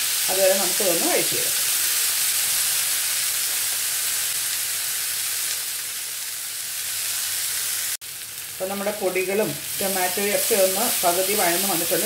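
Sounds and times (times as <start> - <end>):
masala sizzling in a frying pan: 0.0 - 12.0.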